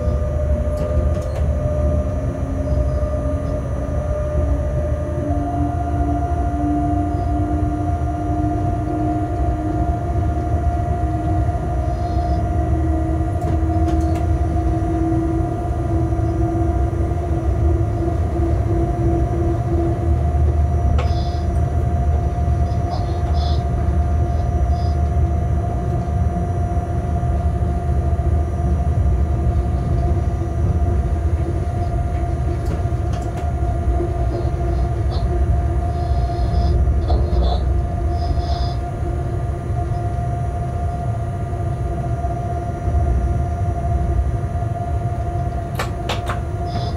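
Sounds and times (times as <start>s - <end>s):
two-note hum: 0.0s - 46.9s
wheels rumbling on rails: 0.0s - 46.9s.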